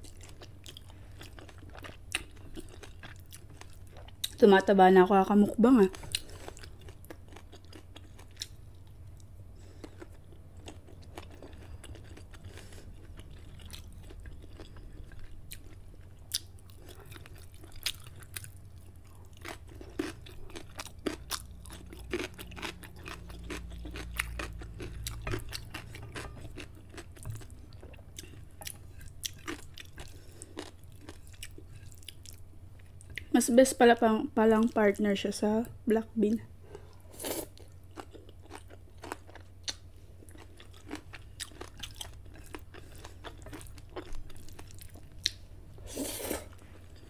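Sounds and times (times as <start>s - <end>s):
person chewing food: 0.0s - 4.4s, 5.9s - 33.3s, 36.6s - 47.0s
steady low hum: 0.0s - 47.0s.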